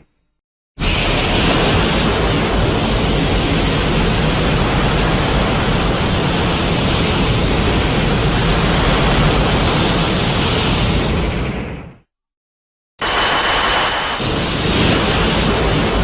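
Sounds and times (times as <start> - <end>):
loud steady rushing noise: 0.8 - 11.2, 13.0 - 16.0.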